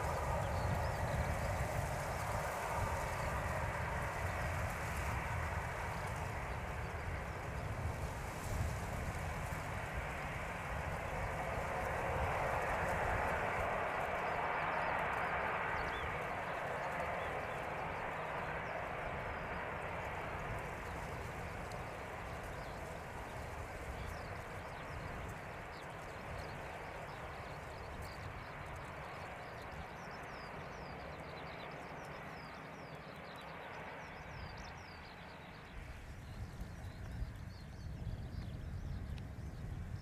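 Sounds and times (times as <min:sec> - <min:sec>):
small birds chirping: 0:00.0 - 0:40.0
wind rumble on microphone: 0:00.0 - 0:40.0.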